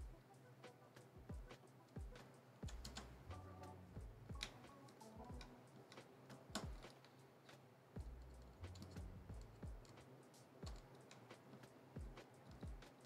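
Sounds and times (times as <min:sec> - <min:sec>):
small clicks and taps of tools: 0:00.9 - 0:03.4, 0:04.3 - 0:13.0.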